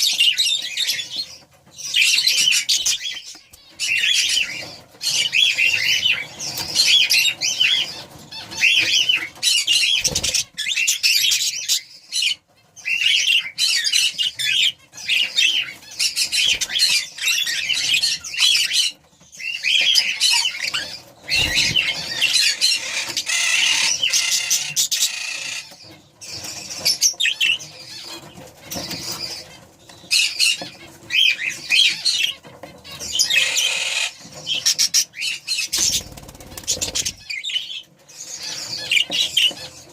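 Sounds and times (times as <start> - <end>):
budgerigars chattering: 0.1 - 39.9.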